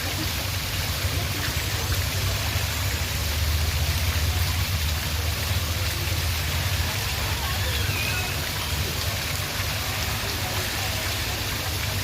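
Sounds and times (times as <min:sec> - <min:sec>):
water fountain splashing: 0:00.0 - 0:12.0.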